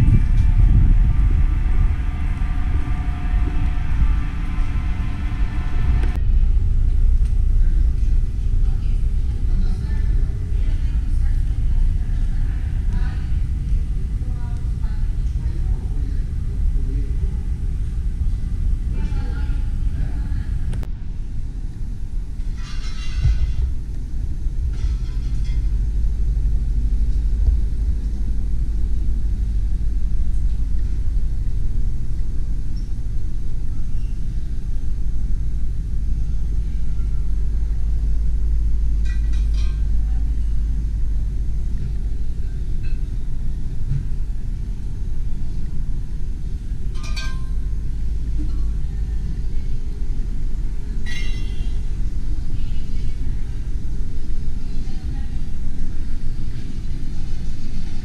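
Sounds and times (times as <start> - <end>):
faint distant sounds: 0.0 - 58.0
steady low rumble: 0.0 - 58.0.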